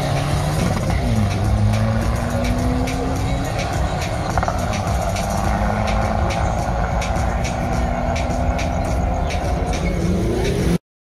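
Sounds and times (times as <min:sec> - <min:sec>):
engine droning rumble: 0:00.0 - 0:10.8.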